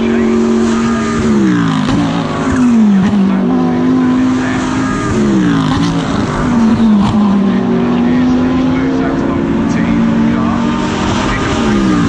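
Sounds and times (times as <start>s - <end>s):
race car engine at speed: 0.0s - 12.0s.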